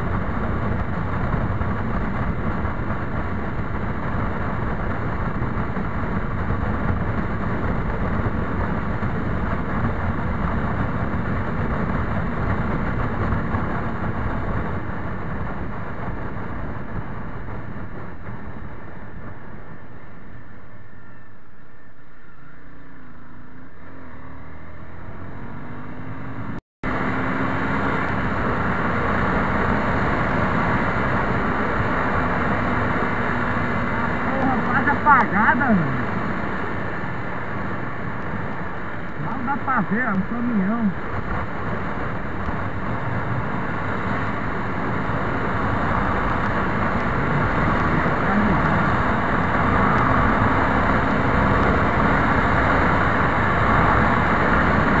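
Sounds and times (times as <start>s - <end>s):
wind rush over microphone: 0.0s - 21.3s, 25.6s - 55.0s
motorcycle engine: 0.0s - 55.0s.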